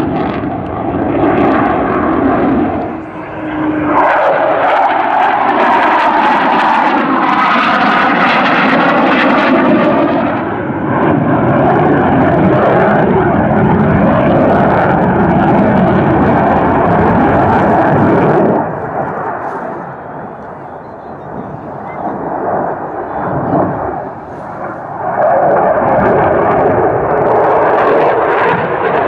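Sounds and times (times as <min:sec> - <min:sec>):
fighter jet engines roaring: 0:00.0 - 0:29.0.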